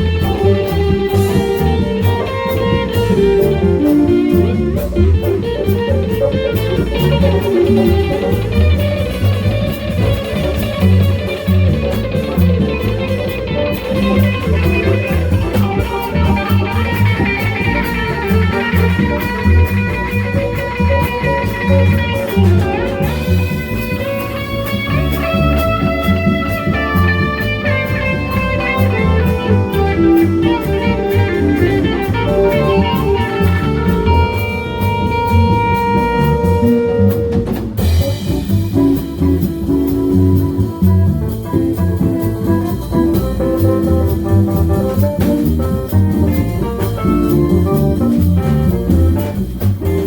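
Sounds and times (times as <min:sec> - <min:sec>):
bass: 0:00.0 - 0:50.0
drum kit on cymbals: 0:00.0 - 0:50.0
electric guitar lead line: 0:00.0 - 0:50.0.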